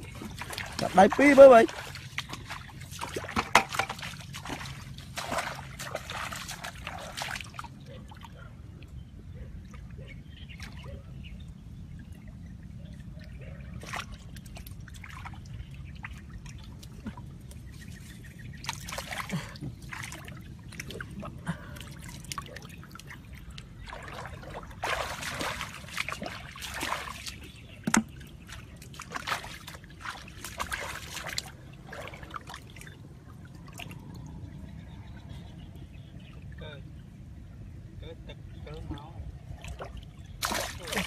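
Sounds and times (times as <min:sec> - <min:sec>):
muddy water splashing and dripping: 0:00.0 - 0:37.7, 0:38.6 - 0:41.0.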